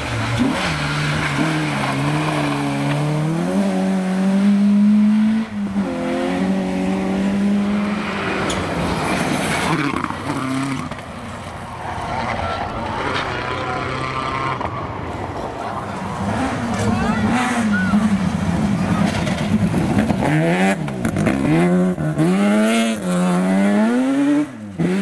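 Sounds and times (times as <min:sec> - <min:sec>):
rally car engine revving: 0:00.0 - 0:11.1, 0:16.0 - 0:25.0
gravel and tyre noise: 0:00.0 - 0:25.0
lower-pitched rally car engine: 0:00.0 - 0:25.0.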